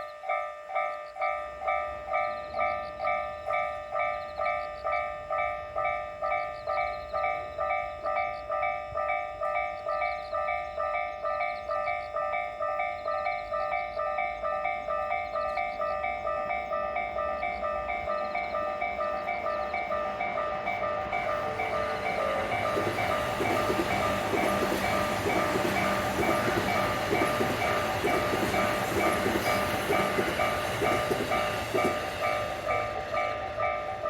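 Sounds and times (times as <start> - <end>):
level-crossing alarm dinging: 0.0 - 34.0
low train rumble: 0.0 - 34.0.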